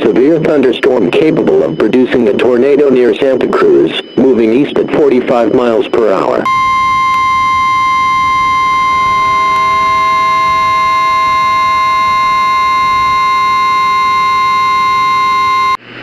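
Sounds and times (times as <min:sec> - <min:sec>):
fainter lower tones: 0:00.0 - 0:15.8.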